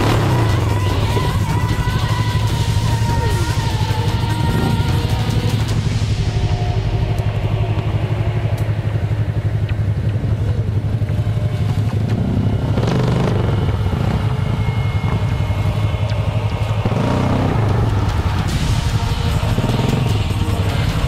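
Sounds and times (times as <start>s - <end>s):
quad engine running at low revs: 0.0s - 21.0s.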